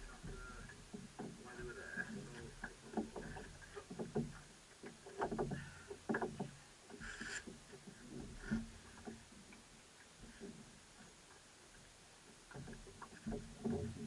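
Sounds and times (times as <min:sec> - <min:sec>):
rope knocking and rubbing on hull: 0:00.0 - 0:11.2, 0:12.3 - 0:14.0.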